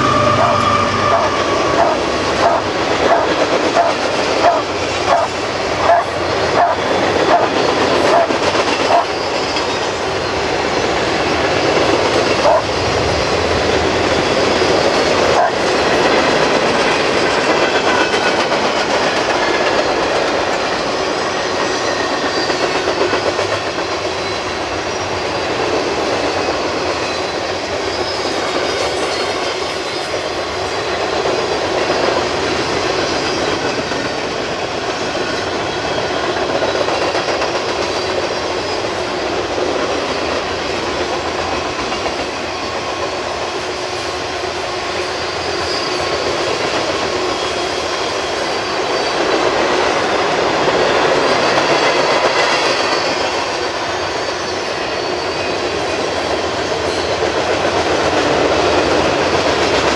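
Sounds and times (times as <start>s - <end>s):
clickety-clack over rail joints: 0.0s - 59.9s
freight cars rolling on rails: 0.0s - 59.9s.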